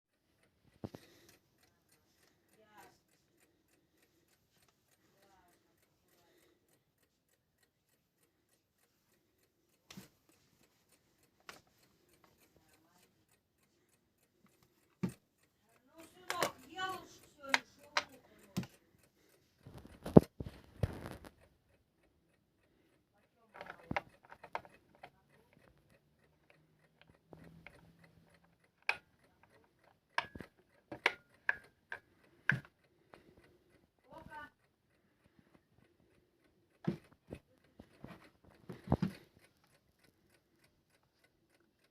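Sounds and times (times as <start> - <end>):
faint fast ticking: 0.1 - 41.9
sharp clicks: 0.4 - 41.9.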